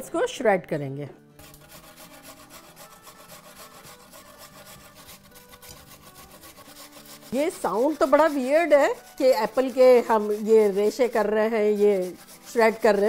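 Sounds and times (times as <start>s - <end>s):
apple grated on metal grater: 1.4s - 13.0s.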